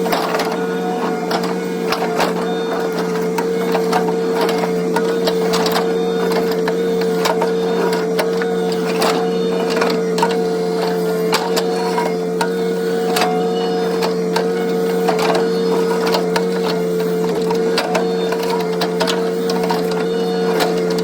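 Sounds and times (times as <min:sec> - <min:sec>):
excavator hydraulic whine: 0:00.0 - 0:21.0.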